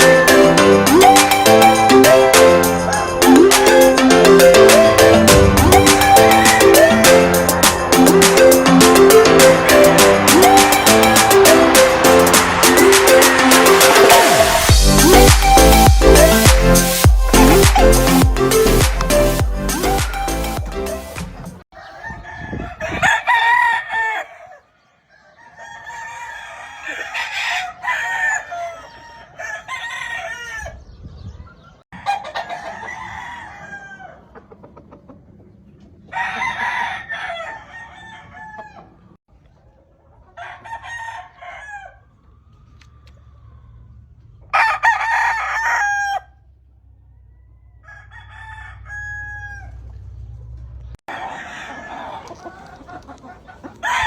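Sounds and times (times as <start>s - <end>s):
roosters crowing: 0.0s - 34.6s, 36.0s - 39.2s, 40.3s - 54.0s.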